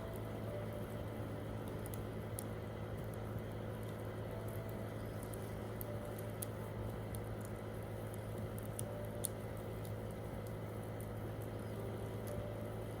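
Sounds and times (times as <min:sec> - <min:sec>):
campfire crackling and popping: 0:01.5 - 0:13.0.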